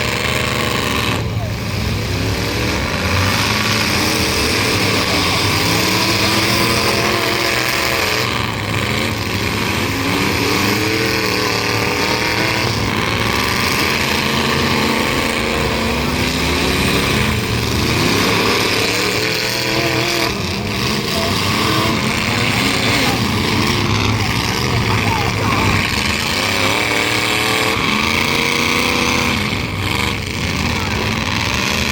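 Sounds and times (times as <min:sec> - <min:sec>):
truck engines revving: 0:00.0 - 0:31.9.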